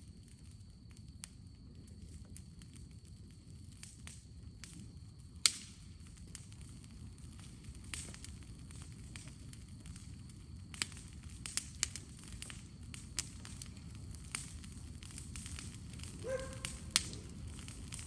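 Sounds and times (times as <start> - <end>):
fire burning with crackles: 0.0 - 18.0.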